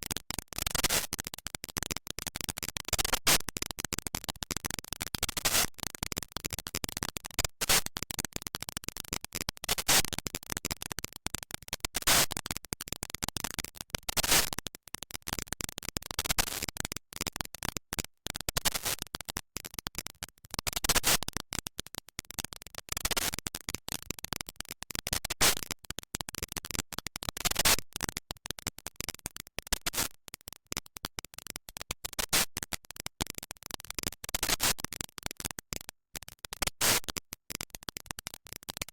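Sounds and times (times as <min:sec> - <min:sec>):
crackle of noise bursts: 0:00.0 - 0:38.9.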